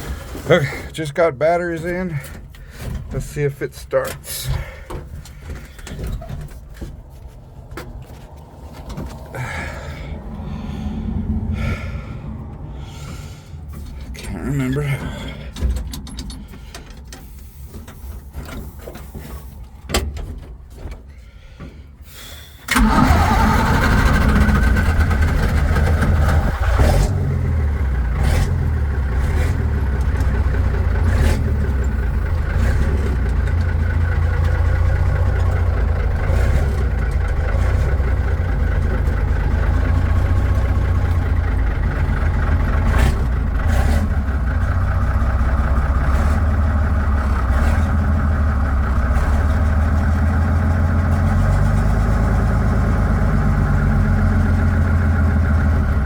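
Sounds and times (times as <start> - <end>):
truck engine starting and idling: 0.0 - 56.0.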